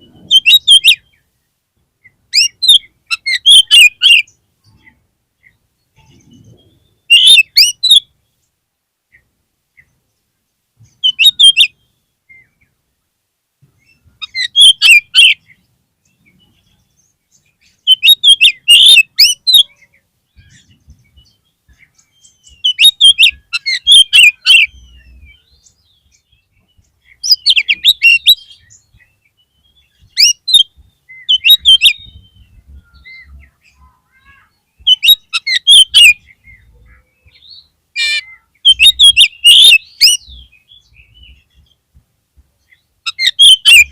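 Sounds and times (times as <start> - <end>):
bird singing whistled notes: 0.0 - 1.3, 2.0 - 8.4, 10.8 - 12.8, 13.7 - 41.8, 42.6 - 43.9.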